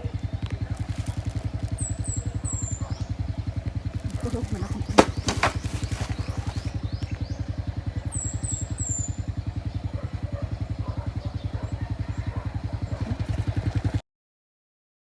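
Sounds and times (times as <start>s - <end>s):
bird chirping: 0.0s - 13.3s
small engine idling: 0.0s - 14.0s.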